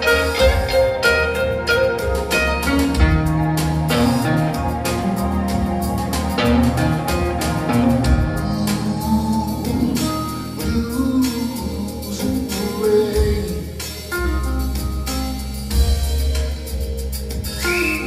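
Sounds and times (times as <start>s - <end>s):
blues band backing: 0.0s - 18.0s
electric guitar lead lines: 0.0s - 18.0s.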